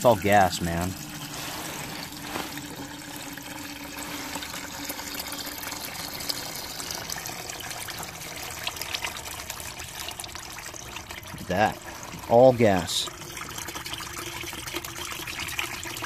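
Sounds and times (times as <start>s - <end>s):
oil pouring into plastic container: 0.0s - 16.0s.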